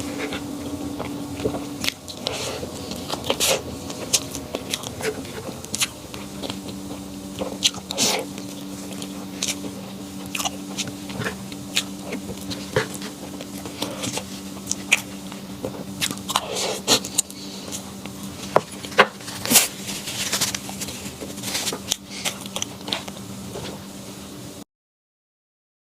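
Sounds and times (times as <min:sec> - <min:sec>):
person chewing crunchy food: 0:00.0 - 0:24.0
steady low hum: 0:00.0 - 0:24.6.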